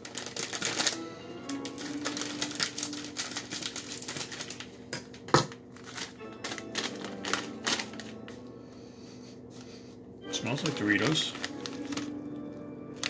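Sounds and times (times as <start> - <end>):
foil chip bag crinkling: 0.0 - 8.5, 10.4 - 13.0.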